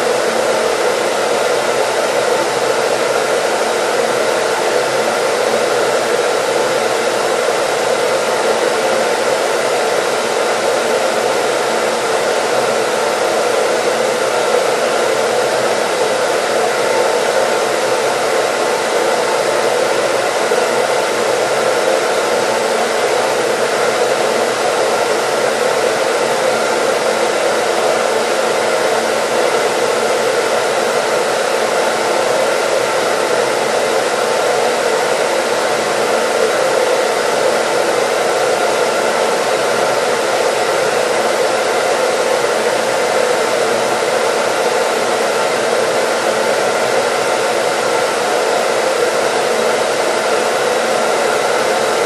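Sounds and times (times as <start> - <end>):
hair dryer blowing: 0.0 - 52.0.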